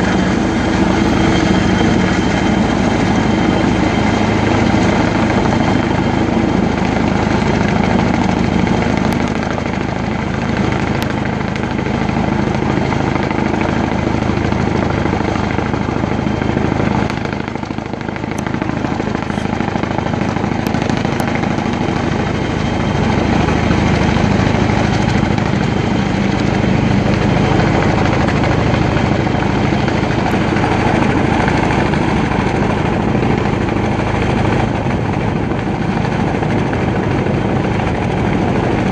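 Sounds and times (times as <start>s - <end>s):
helicopter hovering: 0.0s - 38.9s.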